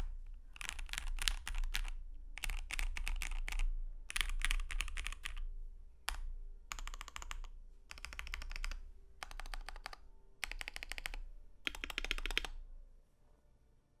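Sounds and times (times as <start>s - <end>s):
mechanical keyboard typing: 0.0s - 5.5s, 6.1s - 12.6s.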